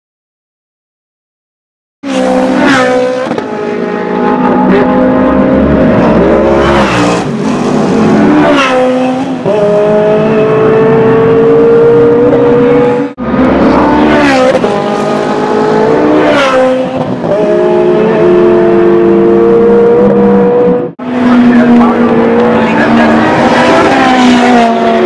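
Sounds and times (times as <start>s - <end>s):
race car accelerating through gears: 2.1s - 25.0s.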